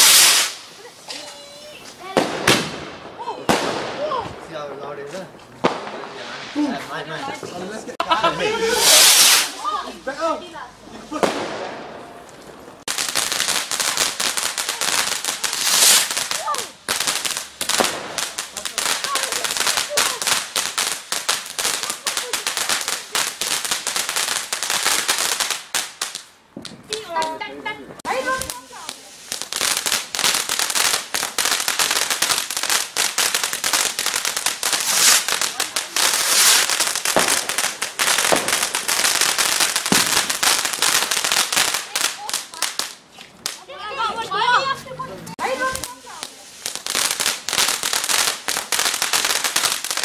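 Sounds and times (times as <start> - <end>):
firecrackers going off: 0.0 - 27.4, 28.0 - 44.7, 45.3 - 50.0.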